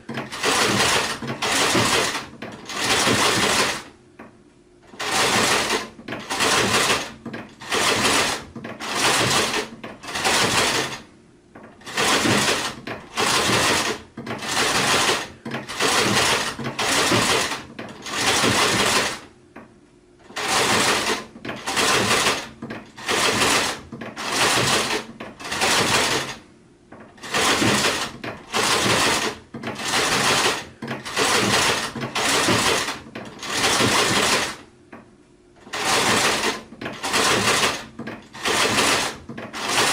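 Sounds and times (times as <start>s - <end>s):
sewing machine stitching: 0.0s - 4.0s, 4.8s - 19.3s, 20.2s - 34.7s, 35.6s - 39.9s.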